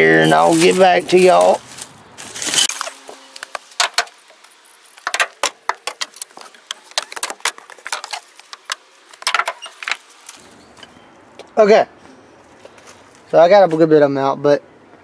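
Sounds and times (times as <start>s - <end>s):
dry leaves and twigs rustling: 0.0s - 13.9s.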